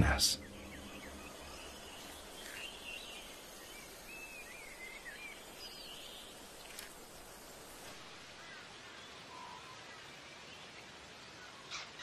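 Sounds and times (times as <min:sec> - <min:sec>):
soft bird chirps: 0:00.0 - 0:10.8
low hiss: 0:00.0 - 0:12.0.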